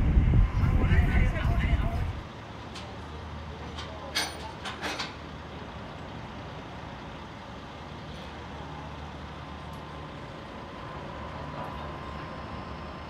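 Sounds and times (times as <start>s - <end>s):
diesel truck idling: 0.0s - 13.0s.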